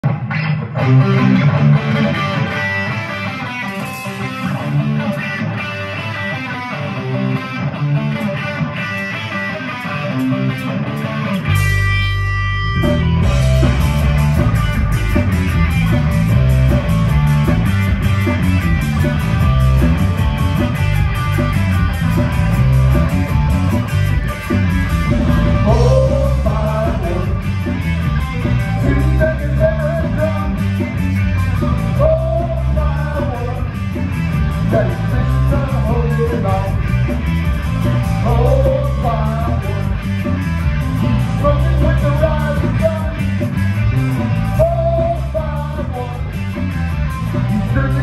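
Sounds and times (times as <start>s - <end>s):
electric guitar: 0.0s - 48.0s
rock band playing: 0.0s - 48.0s.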